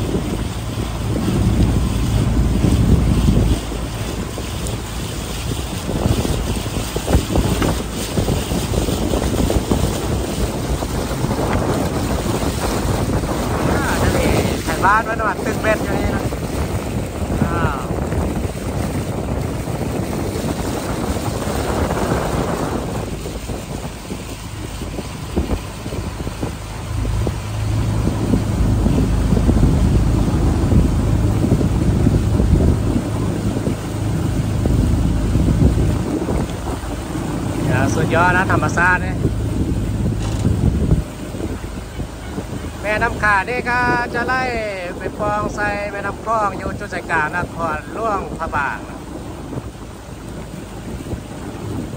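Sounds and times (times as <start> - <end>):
boat motor rumble: 0.0 - 51.9
water rushing past hull: 0.0 - 51.9
wind buffeting microphone: 0.0 - 51.9.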